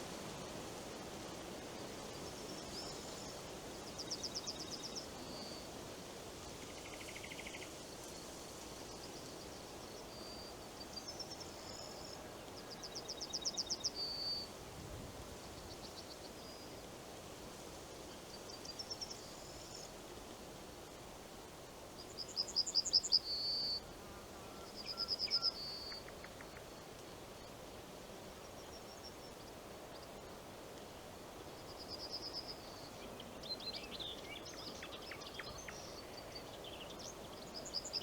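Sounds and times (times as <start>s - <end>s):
wind through leaves: 0.0s - 38.0s.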